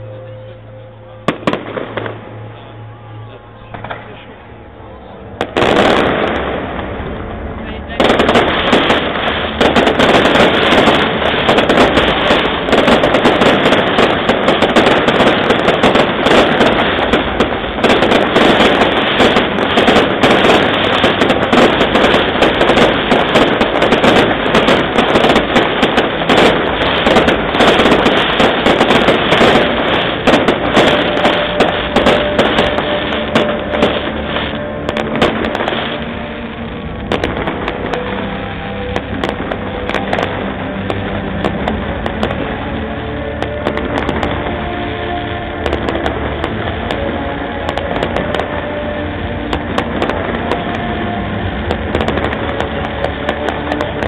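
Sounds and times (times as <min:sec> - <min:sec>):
fireworks bursting and crackling: 0:00.0 - 0:02.8, 0:03.4 - 0:54.0.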